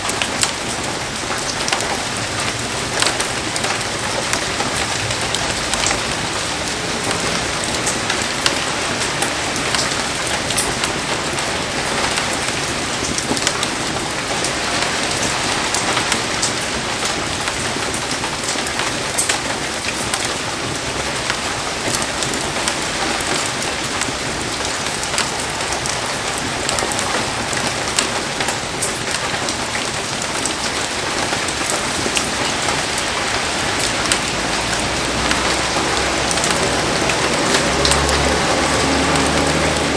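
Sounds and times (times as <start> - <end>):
heavy rain pouring: 0.0 - 39.9
raindrops tapping close by: 0.0 - 39.9.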